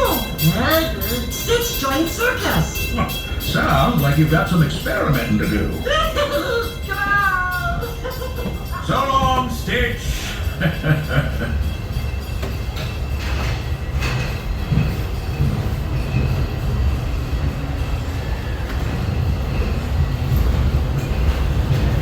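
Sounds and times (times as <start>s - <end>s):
steam train rolling on track: 0.0s - 22.0s.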